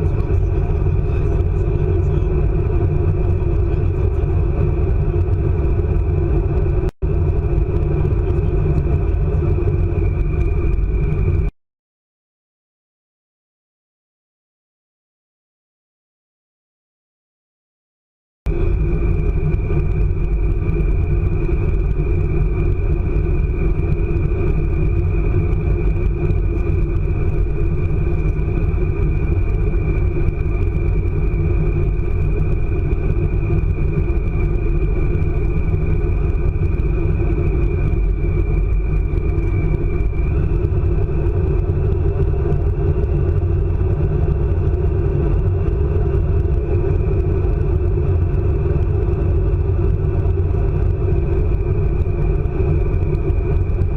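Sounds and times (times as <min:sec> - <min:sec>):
train high whine: 0:00.0 - 0:11.5, 0:18.5 - 0:53.9
train rumble: 0:00.0 - 0:11.5, 0:18.5 - 0:53.9.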